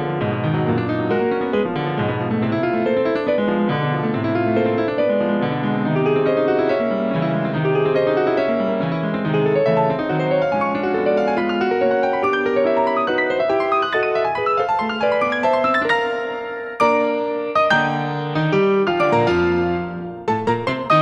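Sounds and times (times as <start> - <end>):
instrumental piano music: 0.0 - 21.0.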